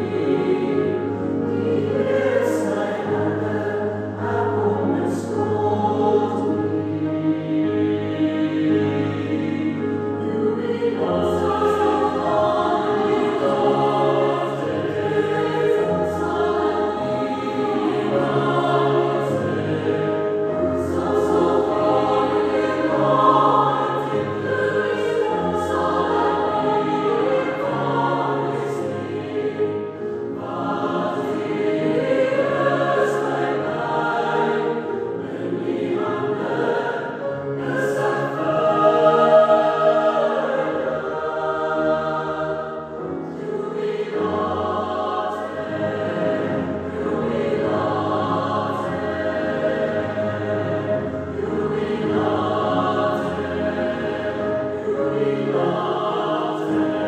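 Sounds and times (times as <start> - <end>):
mixed choir singing: 0.0 - 57.0
piano accompaniment: 0.0 - 57.0.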